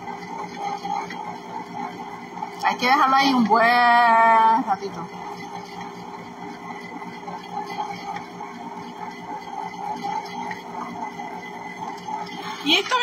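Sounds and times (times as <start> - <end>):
ice cream maker motor humming: 0.0 - 13.0.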